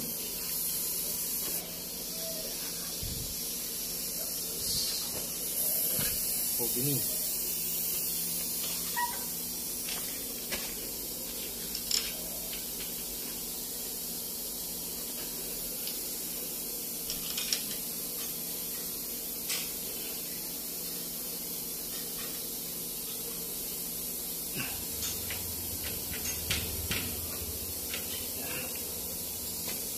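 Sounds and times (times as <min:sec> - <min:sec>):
steady high hiss: 0:00.0 - 0:29.9.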